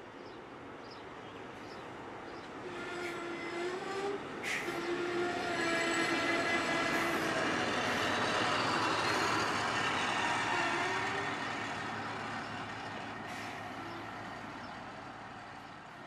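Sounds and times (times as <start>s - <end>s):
rail vehicle running past: 0.0s - 16.0s.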